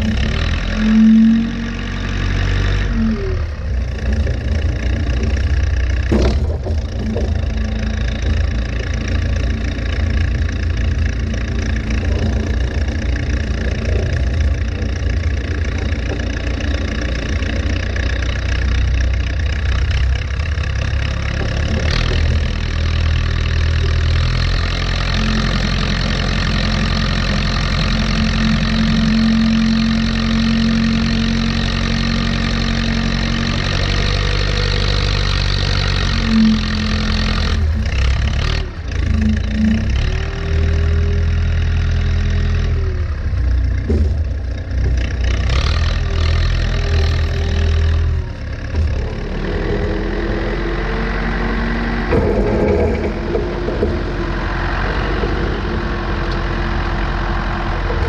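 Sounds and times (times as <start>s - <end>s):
whining tone: 0.0s - 44.7s, 45.8s - 58.0s
diesel engine running: 0.0s - 58.0s
loader bucket pushing snow: 0.0s - 58.0s.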